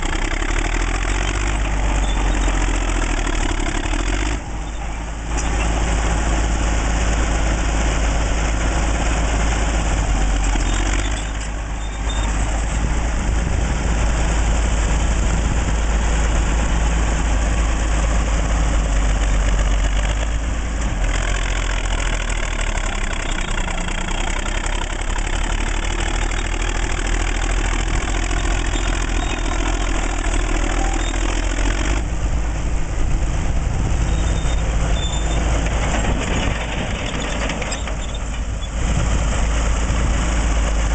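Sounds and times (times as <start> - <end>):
bulldozer diesel engine rumbling: 0.0 - 40.9.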